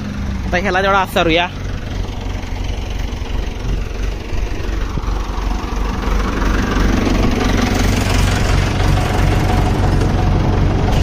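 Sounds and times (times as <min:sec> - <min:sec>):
tractor diesel engine humming: 0:00.0 - 0:11.0.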